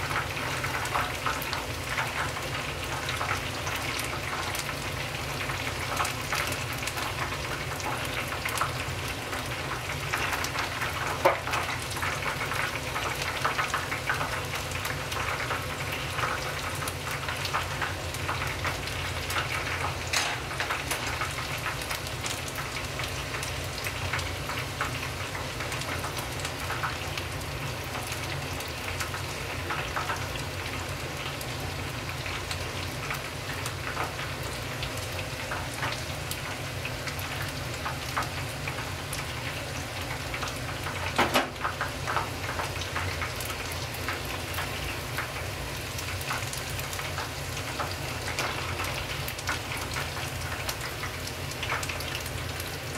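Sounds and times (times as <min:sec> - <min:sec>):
chicken deep-frying in oil: 0:00.0 - 0:52.9.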